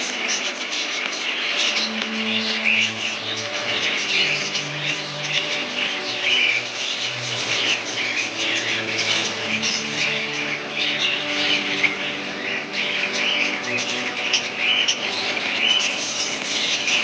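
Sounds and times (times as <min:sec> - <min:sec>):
budgerigars chirping: 0:00.0 - 0:17.0.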